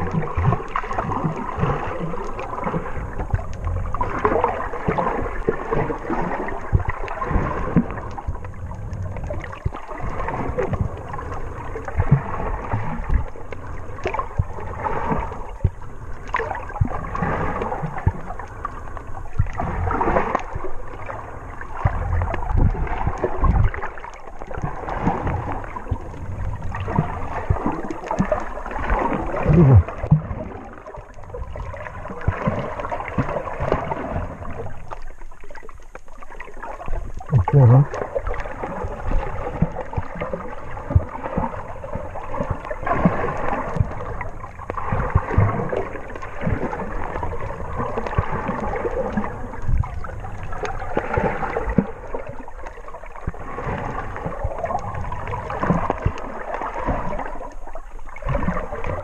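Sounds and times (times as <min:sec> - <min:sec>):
low underwater gurgles: 0:00.0 - 0:59.0
water sloshing underwater: 0:00.0 - 0:59.0.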